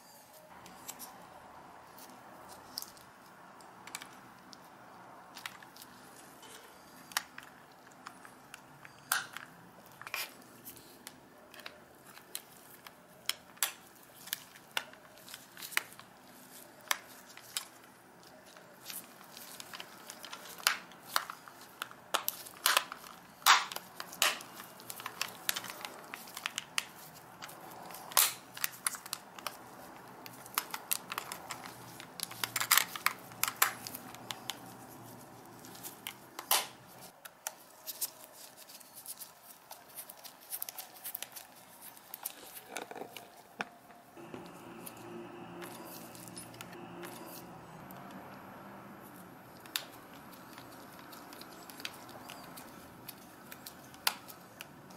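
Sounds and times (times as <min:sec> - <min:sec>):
rubbing and handling noise: 0:00.0 - 0:47.8.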